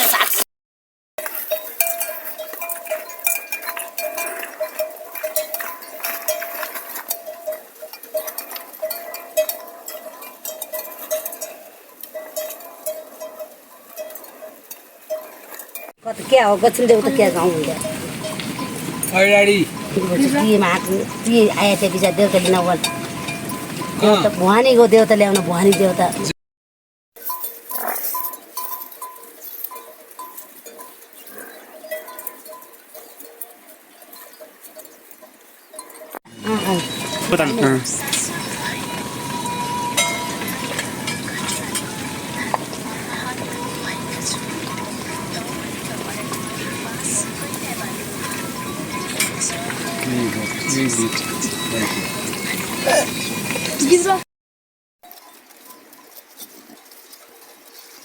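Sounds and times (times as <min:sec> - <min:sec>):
livestock bells clanking: 0:01.2 - 0:26.3, 0:27.2 - 0:54.2.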